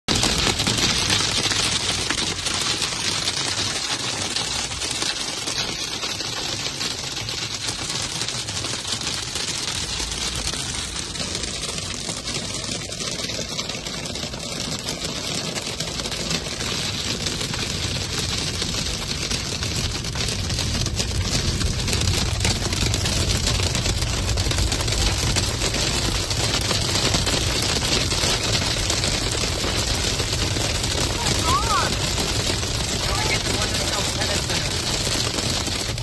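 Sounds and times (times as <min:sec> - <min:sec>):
hail hitting car roof: 0:00.1 - 0:36.0.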